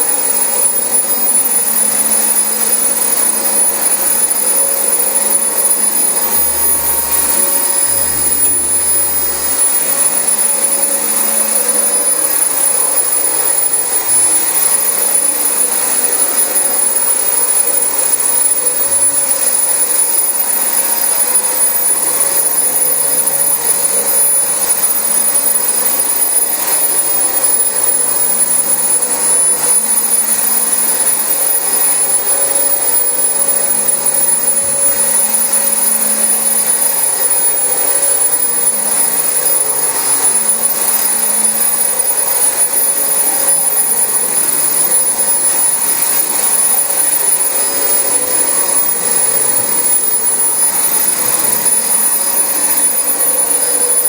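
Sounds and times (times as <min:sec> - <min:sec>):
high whine: 0:00.0 - 0:54.0
vacuum cleaner running on carpet: 0:00.1 - 0:54.0.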